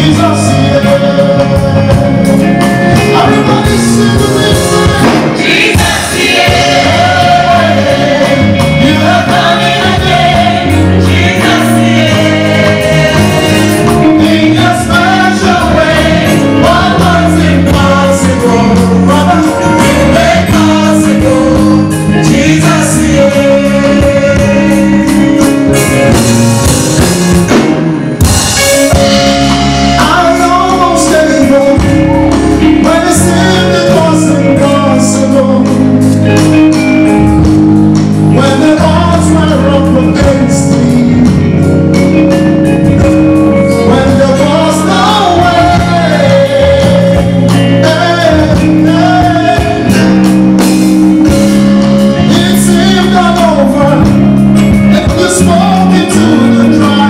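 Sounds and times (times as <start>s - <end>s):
person singing: 0.0s - 25.9s, 28.8s - 36.0s, 38.3s - 42.0s, 43.6s - 50.3s, 52.0s - 57.0s
band with drums and bass: 0.0s - 57.0s.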